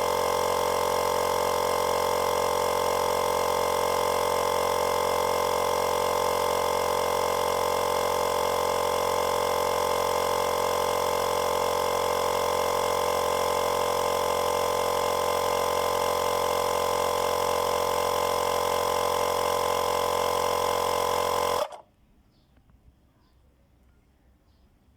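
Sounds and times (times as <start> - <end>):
portable tyre inflator humming: 0.0 - 21.8.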